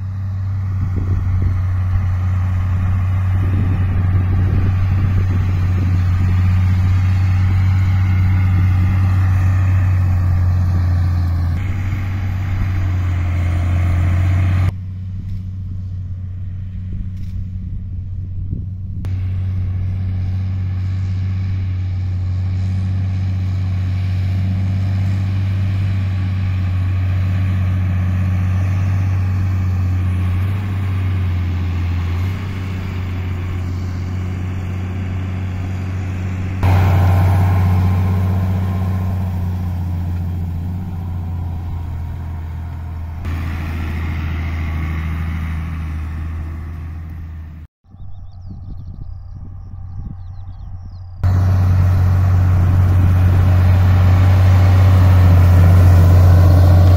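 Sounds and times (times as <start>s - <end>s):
tractor diesel engine droning: 0.0s - 56.9s.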